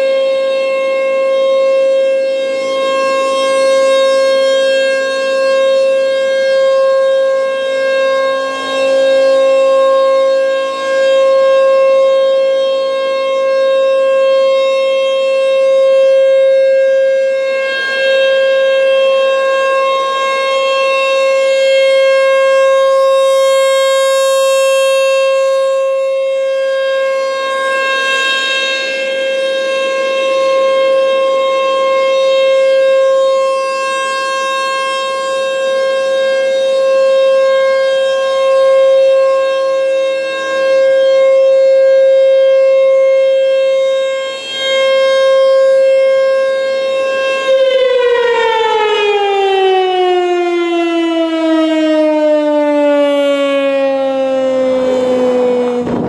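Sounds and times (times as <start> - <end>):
rotating warning siren: 0.0 - 56.0.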